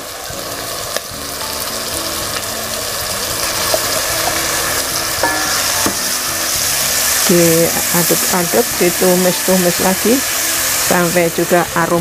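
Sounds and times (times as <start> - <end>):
spice paste sizzling in hot oil: 0.0 - 12.0.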